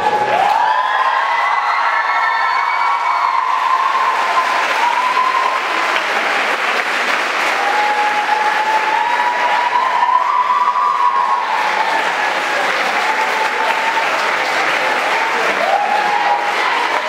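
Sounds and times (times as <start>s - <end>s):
audience applauding: 0.0s - 17.0s
high voices cheering: 0.0s - 17.0s.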